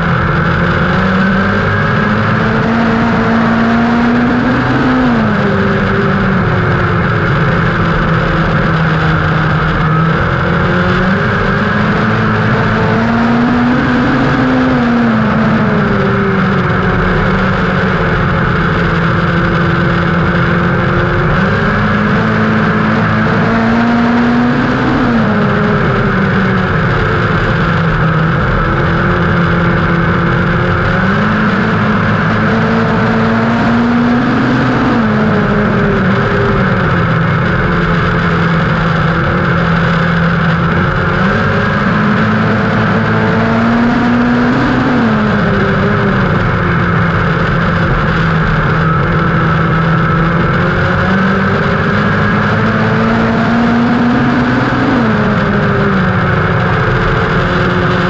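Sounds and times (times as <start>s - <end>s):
race car engine at racing speed: 0.0s - 58.0s.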